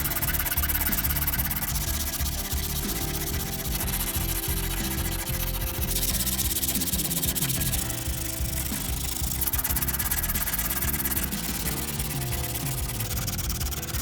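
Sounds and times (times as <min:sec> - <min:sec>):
abrasive sanding: 0:00.0 - 0:14.0.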